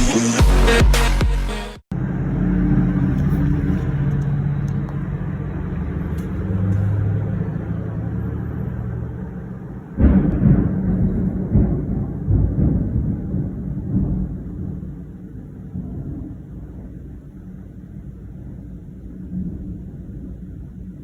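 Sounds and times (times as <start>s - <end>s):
thunder rumbling: 3.9s - 21.0s.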